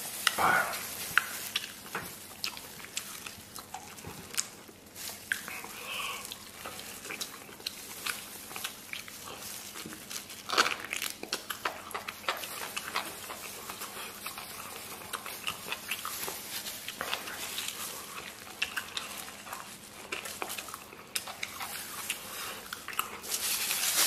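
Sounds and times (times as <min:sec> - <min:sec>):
person chewing food: 0:00.0 - 0:23.6.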